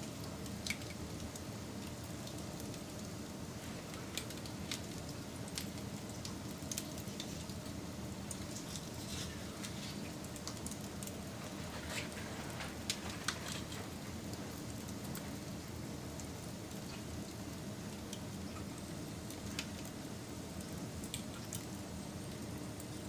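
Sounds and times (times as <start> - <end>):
campfire crackling and popping: 0.2 - 20.0.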